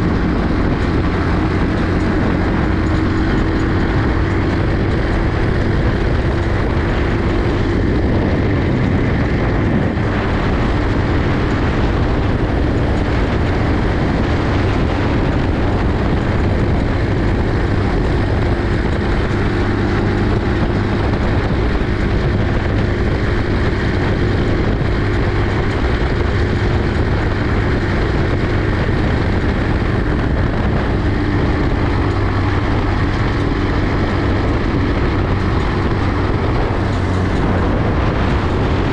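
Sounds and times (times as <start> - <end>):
buggy engine running: 0.0 - 38.9.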